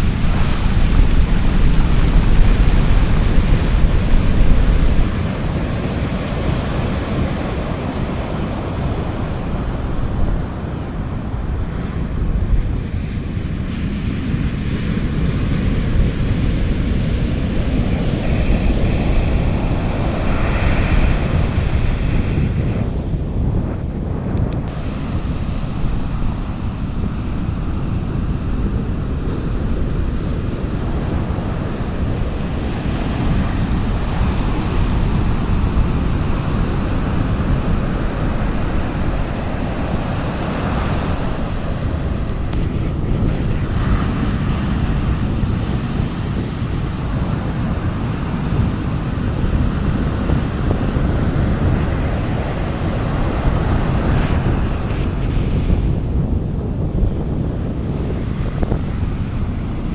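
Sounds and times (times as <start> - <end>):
sea waves washing onto beach: 0.0 - 59.9
wind rumbling on microphone: 0.0 - 59.9.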